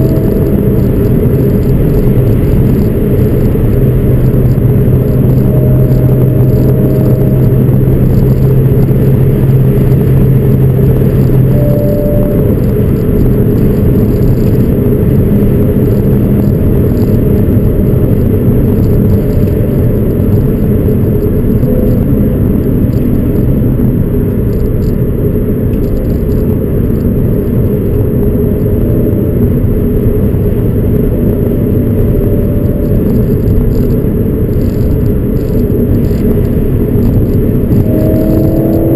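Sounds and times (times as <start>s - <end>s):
car engine droning: 0.0s - 38.9s
road rumble: 0.0s - 38.9s
strong low hum: 0.0s - 38.9s.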